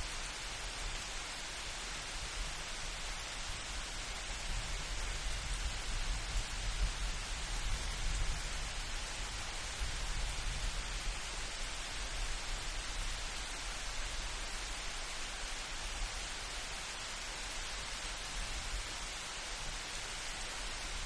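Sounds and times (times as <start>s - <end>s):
light rain hissing: 0.0s - 21.0s.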